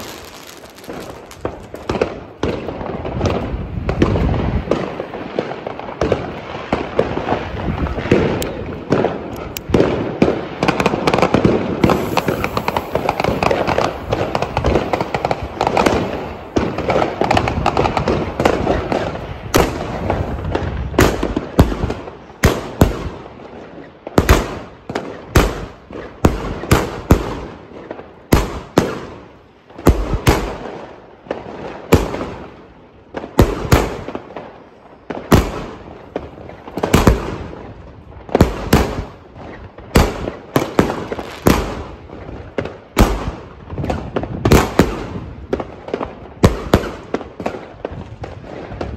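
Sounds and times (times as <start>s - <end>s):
firework shots: 0.0s - 48.9s
fireworks crackling and banging: 0.0s - 48.9s.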